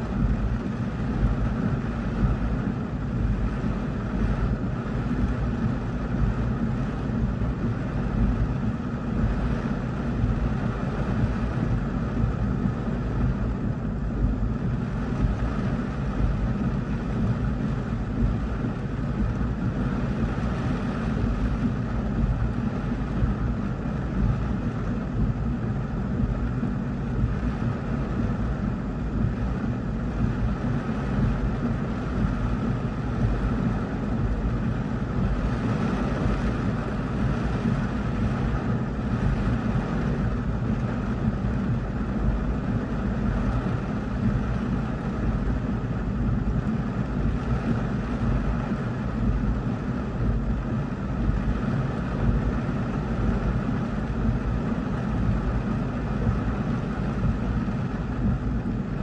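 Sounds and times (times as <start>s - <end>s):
heavy rain on car roof: 0.0s - 59.0s
low rumble: 0.0s - 59.0s.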